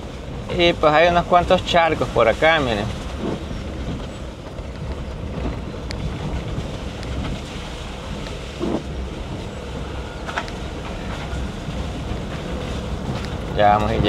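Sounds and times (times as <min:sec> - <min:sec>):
engine and tyre rumble: 0:00.0 - 0:14.0
wind noise on microphone: 0:01.6 - 0:14.0.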